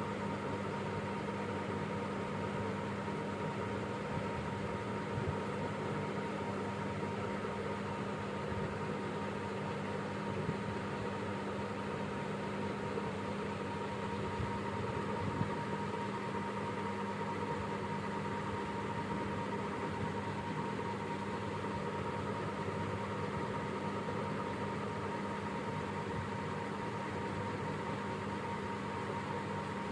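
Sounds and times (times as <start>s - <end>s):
mechanical hum: 0.0s - 29.9s.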